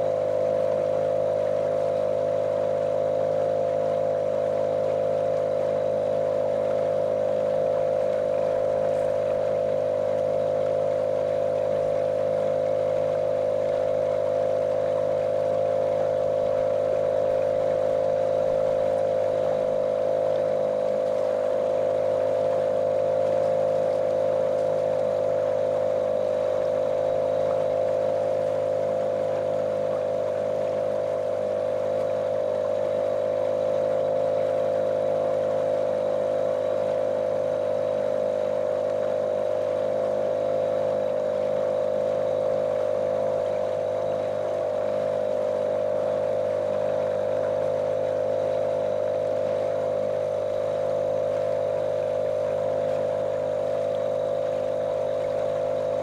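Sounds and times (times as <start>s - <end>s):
outboard motor droning: 0.0s - 56.0s
water rushing along hull: 0.0s - 56.0s.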